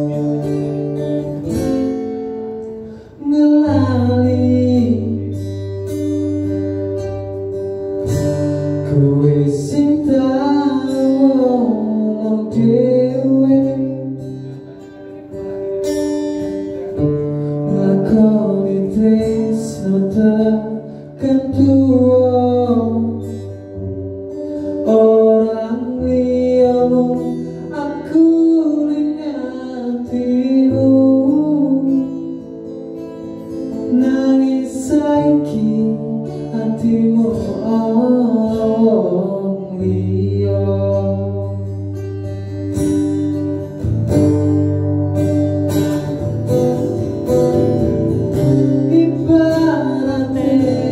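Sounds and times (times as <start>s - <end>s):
man singing: 0.0s - 42.5s, 48.2s - 50.9s
acoustic guitar chords: 0.0s - 50.9s.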